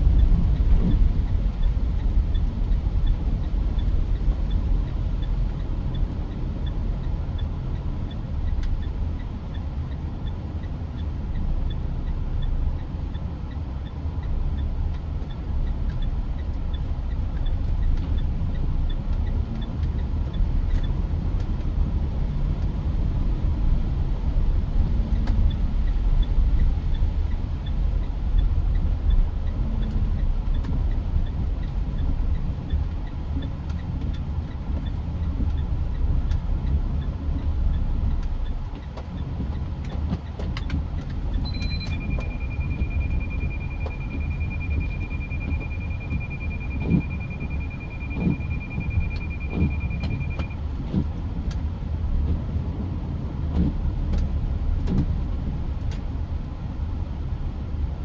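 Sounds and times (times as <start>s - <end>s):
engine and road noise rumble: 0.0s - 58.0s.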